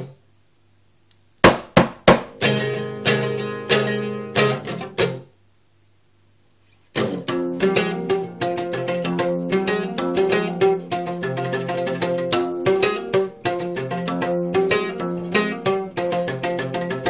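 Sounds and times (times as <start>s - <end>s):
oud plucked: 1.4s - 5.3s, 6.7s - 17.0s.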